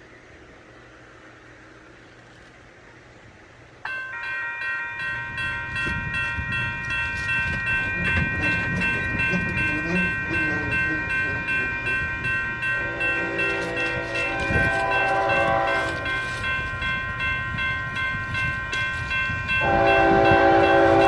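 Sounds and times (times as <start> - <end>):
railroad crossing bells ringing: 3.8 - 21.0.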